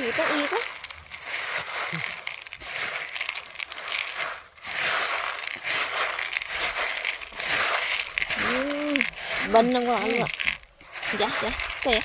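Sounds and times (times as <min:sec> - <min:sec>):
dry soil scraped and crunched: 0:00.0 - 0:12.0.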